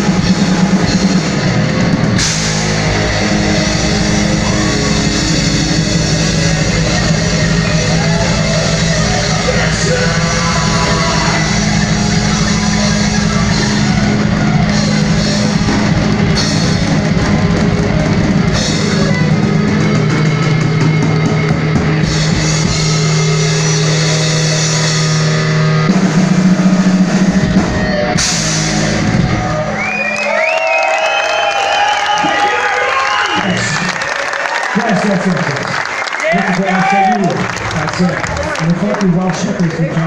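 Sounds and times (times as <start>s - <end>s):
drum kit: 0.0s - 34.2s
electric guitars: 0.0s - 40.0s.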